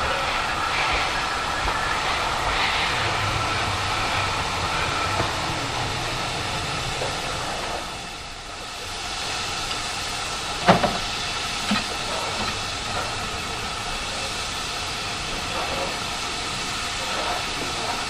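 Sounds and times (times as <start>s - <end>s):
steam hiss: 0.0s - 18.0s.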